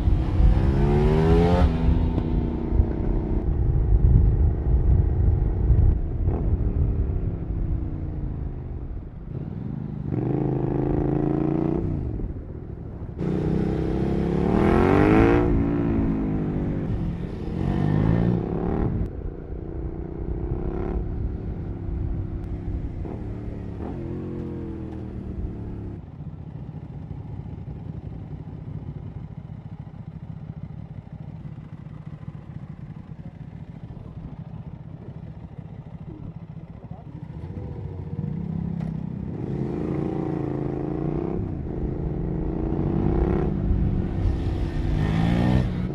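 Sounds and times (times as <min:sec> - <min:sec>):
motorcycle accelerating through gears: 0:00.0 - 0:45.9.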